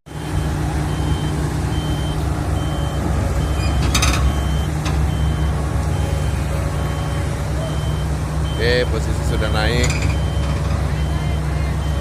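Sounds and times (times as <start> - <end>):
diesel machinery running: 0.1 - 12.0
warning alarm beeping: 0.1 - 12.0.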